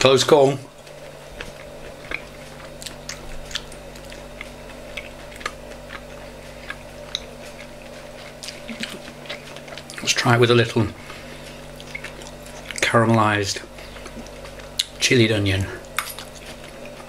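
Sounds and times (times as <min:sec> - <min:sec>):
person chewing food: 0:00.7 - 0:10.2, 0:11.0 - 0:13.0, 0:13.6 - 0:15.0, 0:15.8 - 0:17.0.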